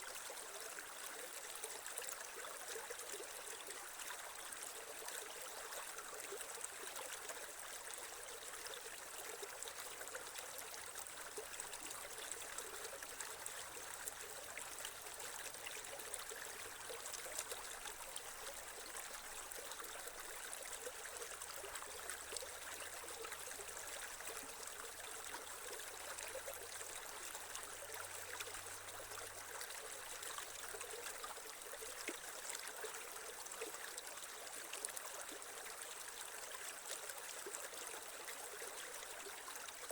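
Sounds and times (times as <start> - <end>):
creek water trickling: 0.0 - 39.9.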